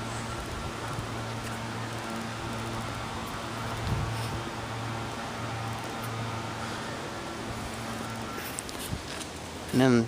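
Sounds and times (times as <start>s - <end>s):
low mechanical hum: 0.0s - 10.0s
outdoor noise: 0.0s - 10.0s.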